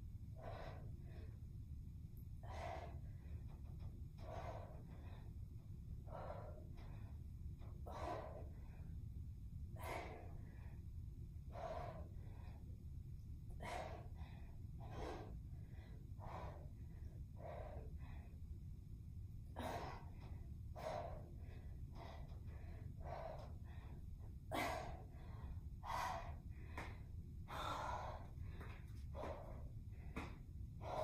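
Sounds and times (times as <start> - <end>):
woman breathing hard: 0.1 - 31.0.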